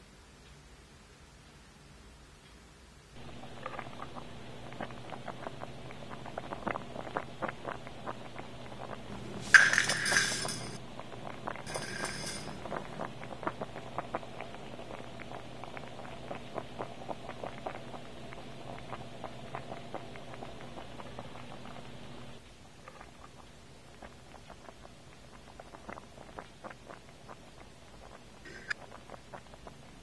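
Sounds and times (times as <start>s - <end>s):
water boiling with popping bubbles: 3.2s - 30.0s.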